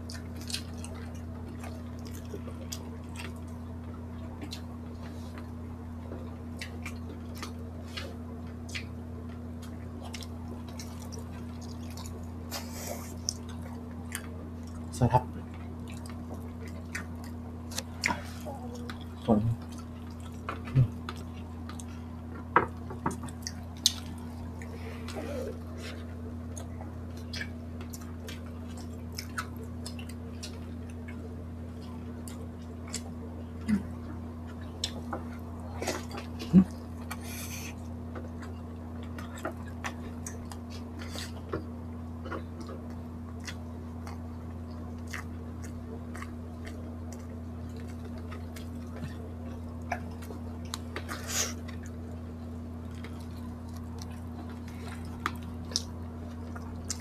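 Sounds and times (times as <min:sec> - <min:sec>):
close chewing: 0:00.0 - 0:57.0
steady low hum: 0:00.0 - 0:57.0.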